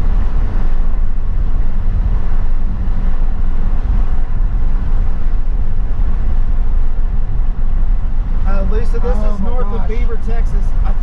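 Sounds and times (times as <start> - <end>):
moving vehicle rumble: 0.0 - 11.0
road noise: 0.0 - 11.0
wind noise: 0.0 - 11.0.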